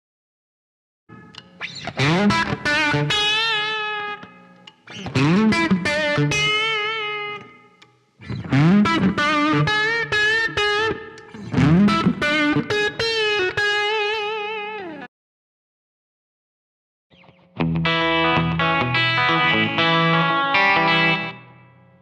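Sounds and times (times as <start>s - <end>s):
electric guitar melody: 1.1s - 15.1s, 17.1s - 22.0s.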